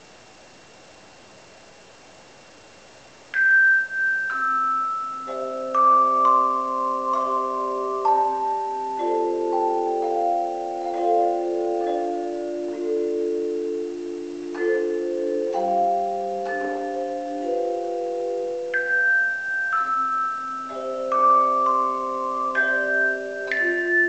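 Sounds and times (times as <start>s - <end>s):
low held chime notes: 3.4s - 24.0s
tone chimes melody: 3.4s - 24.0s.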